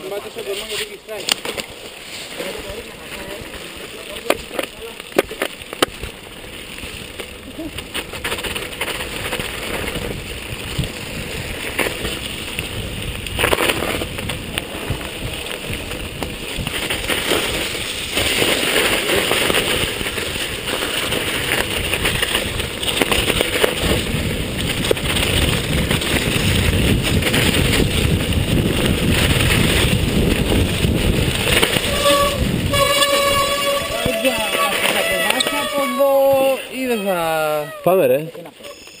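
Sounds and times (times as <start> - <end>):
bike rattling over bumps: 0.0 - 37.2
bike tyres rumbling on dirt trail: 0.0 - 39.0.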